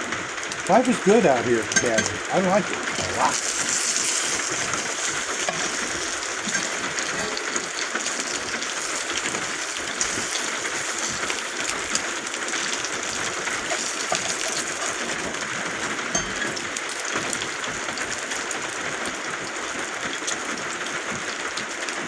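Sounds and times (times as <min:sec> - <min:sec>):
bacon sizzling in a pan: 0:00.0 - 0:22.0
rain falling on roof: 0:00.0 - 0:22.0.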